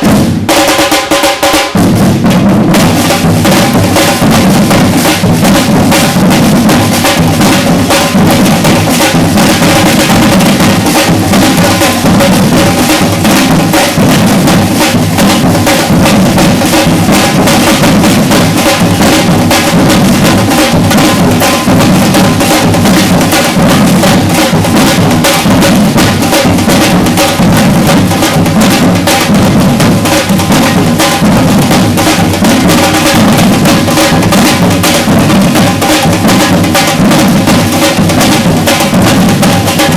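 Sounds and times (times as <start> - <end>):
rapid snare drum strokes: 0.0 - 39.9
deep bass drums: 1.8 - 33.8.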